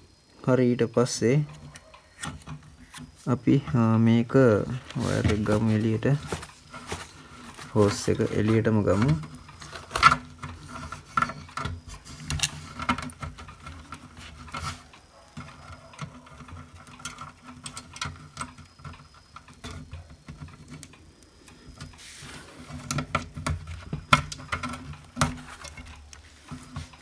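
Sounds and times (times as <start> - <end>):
small clicks taps and rattles: 0.9 - 22.0, 22.6 - 27.0.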